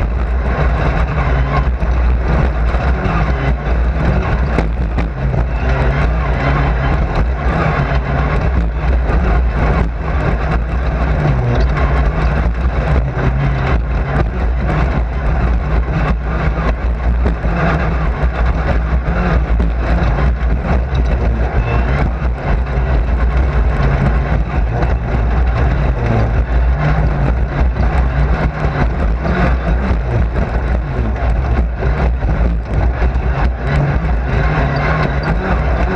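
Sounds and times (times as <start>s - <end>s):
knocks and rattles: 0.0s - 35.9s
race car engine running hard: 0.0s - 35.9s.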